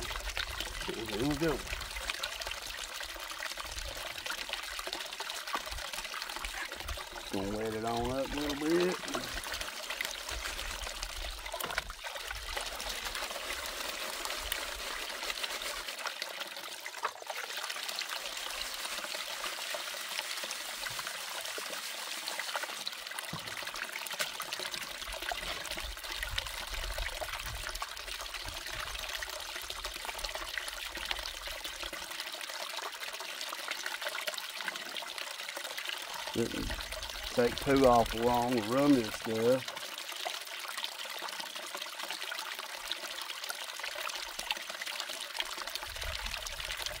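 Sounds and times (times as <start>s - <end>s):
water trickling down sluice box: 0.0s - 47.0s.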